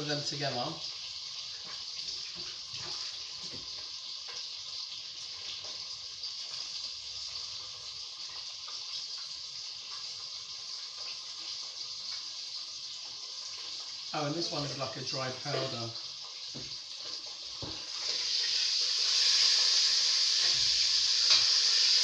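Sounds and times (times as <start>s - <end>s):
food sizzling in a pot: 0.0s - 22.0s.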